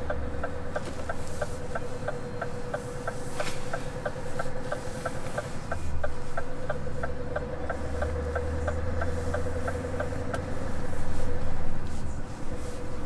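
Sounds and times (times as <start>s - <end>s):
truck indicator ticking: 0.0s - 11.8s
diesel engine drone: 0.0s - 13.0s.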